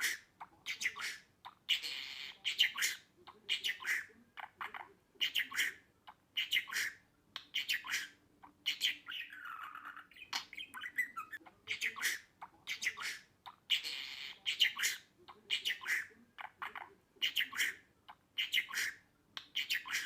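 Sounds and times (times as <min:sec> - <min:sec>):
budgerigar chirping and chattering: 0:00.0 - 0:20.0.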